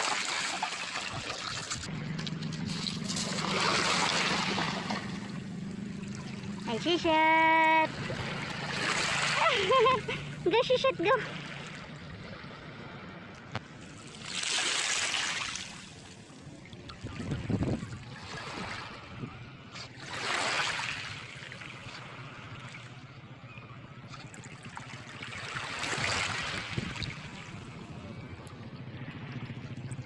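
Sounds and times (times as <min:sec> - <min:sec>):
small waves washing in: 0:00.0 - 0:23.1, 0:24.0 - 0:28.1.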